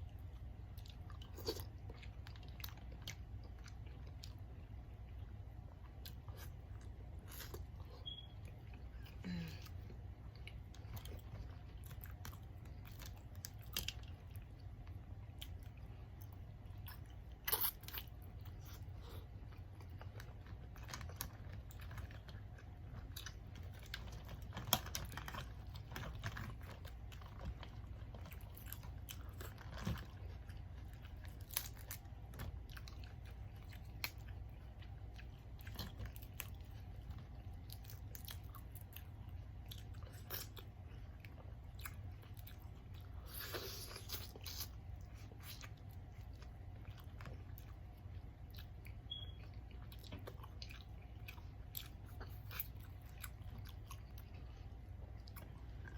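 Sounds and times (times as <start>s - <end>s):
steady low hum: 0.0s - 55.9s
wet chewing and mouth smacks: 9.7s - 55.9s.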